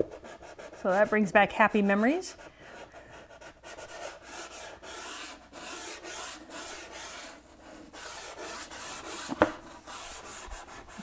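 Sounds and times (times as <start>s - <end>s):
pastel stick rasping on paper: 0.0s - 11.0s.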